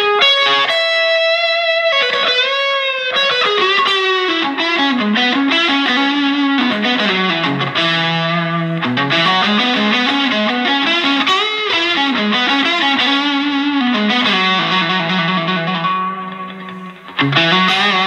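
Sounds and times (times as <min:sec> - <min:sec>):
overdriven electric guitar lead: 0:00.0 - 0:18.0.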